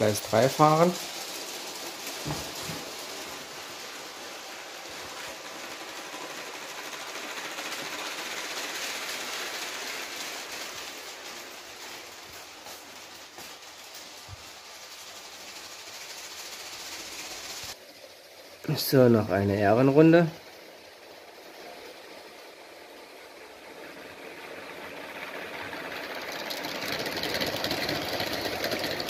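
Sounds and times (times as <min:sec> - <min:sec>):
toy train wheels rattling: 0:00.0 - 0:29.0.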